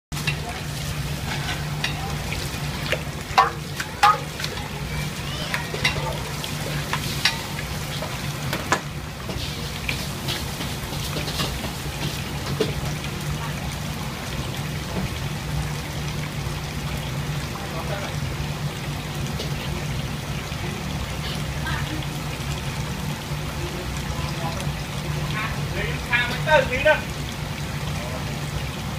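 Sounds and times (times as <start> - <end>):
water sizzling in hot wok: 0.1 - 28.9.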